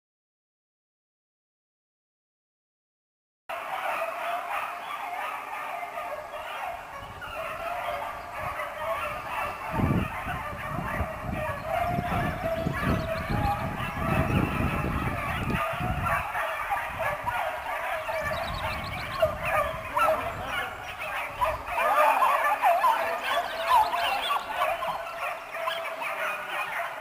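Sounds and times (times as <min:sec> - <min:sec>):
dogs barking and crying: 0:03.5 - 0:27.0.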